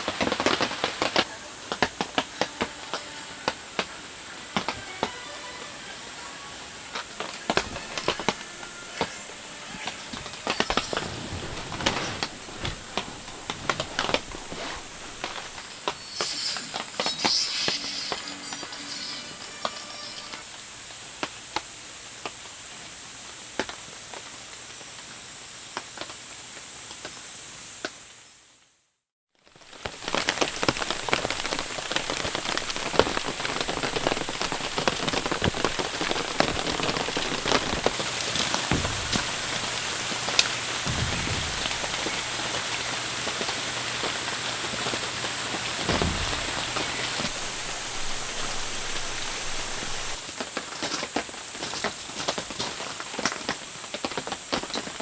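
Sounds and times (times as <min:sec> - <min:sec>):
heavy rain falling: 0:00.0 - 0:27.0, 0:29.4 - 0:55.0
raindrops striking close by: 0:00.0 - 0:27.2, 0:29.4 - 0:55.0.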